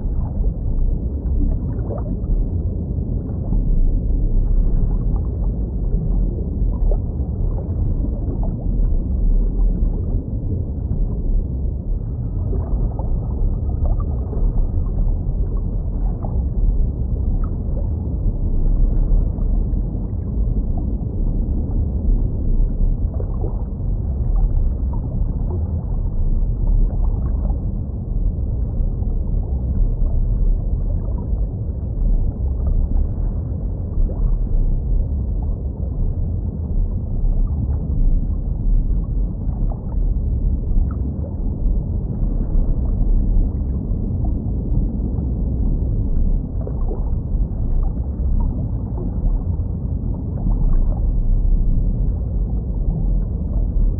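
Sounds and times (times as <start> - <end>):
low underwater rumble: 0.0 - 53.9
water gurgling: 0.0 - 53.9.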